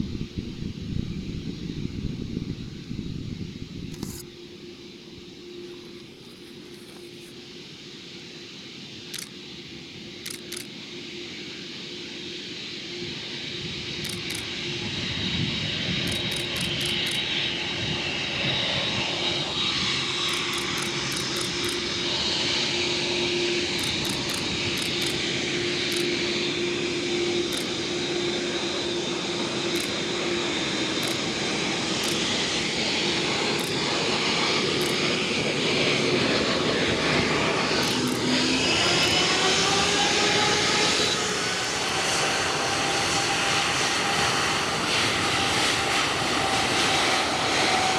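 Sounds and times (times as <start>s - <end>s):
jet engines humming and whining: 0.0s - 47.9s.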